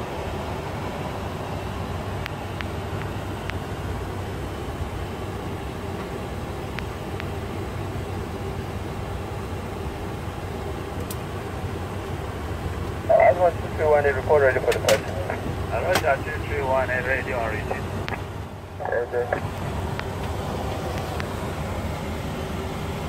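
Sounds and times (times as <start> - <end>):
aircraft engine and airflow hum: 0.0 - 23.0.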